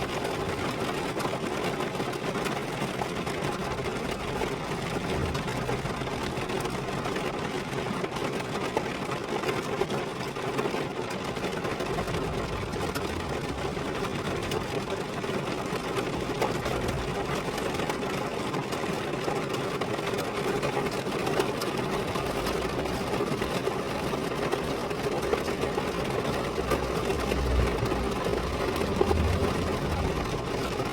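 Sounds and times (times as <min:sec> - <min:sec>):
rain falling on a car: 0:00.0 - 0:30.9.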